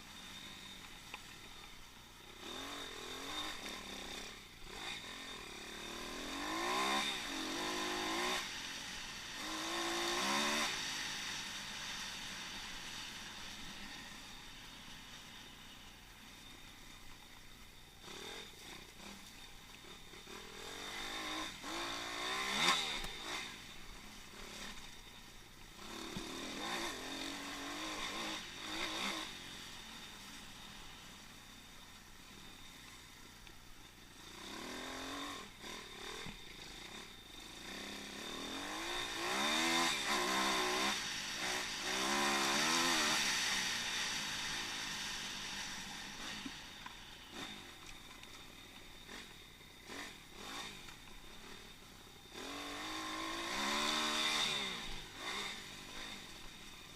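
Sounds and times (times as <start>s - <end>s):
pit bike engine revving: 0.0s - 15.7s, 17.9s - 33.0s, 34.2s - 56.9s.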